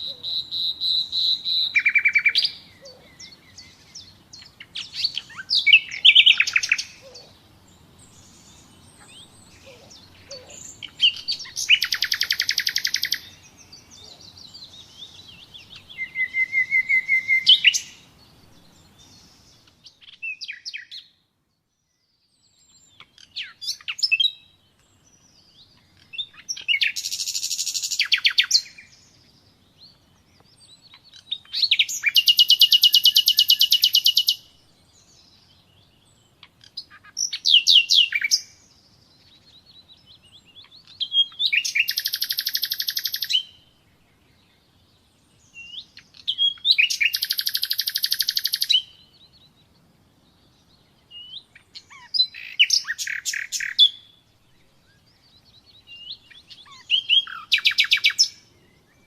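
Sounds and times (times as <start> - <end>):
nightingale singing trills: 0.0 - 59.0.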